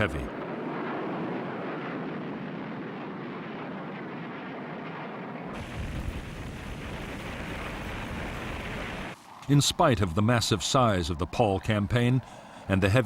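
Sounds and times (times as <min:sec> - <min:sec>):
jet aircraft rushing noise: 0:00.0 - 0:12.4.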